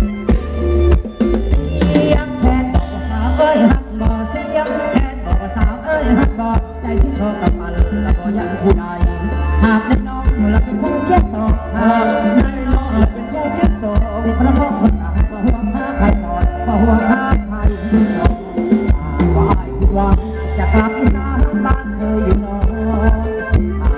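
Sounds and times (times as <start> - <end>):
live band playing dance music: 0.0 - 23.9
steady drum beat: 0.0 - 23.9.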